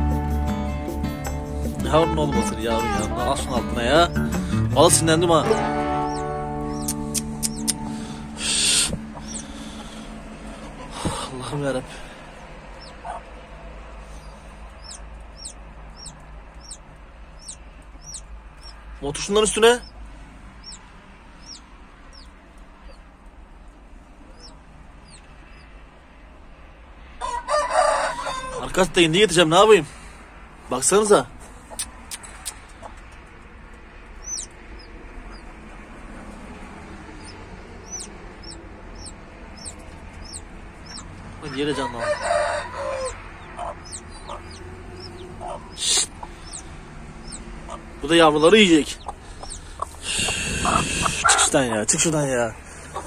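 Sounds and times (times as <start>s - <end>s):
chicks peeping: 1.7s - 20.0s, 20.6s - 23.1s, 24.2s - 25.7s, 31.5s - 33.4s, 34.1s - 53.0s.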